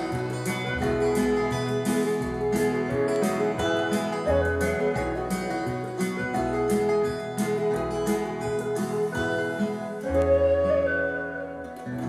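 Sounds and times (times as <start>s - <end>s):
acoustic guitar: 0.0s - 12.0s
folk-rock song over loudspeakers: 0.0s - 12.0s.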